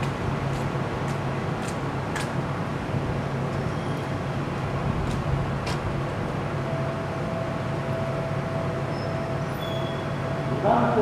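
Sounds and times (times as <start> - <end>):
electric trains humming: 0.0 - 11.0.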